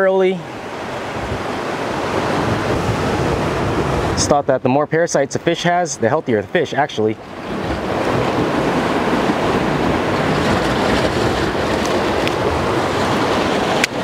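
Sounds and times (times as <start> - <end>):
ocean surf on rocks: 0.0 - 14.0.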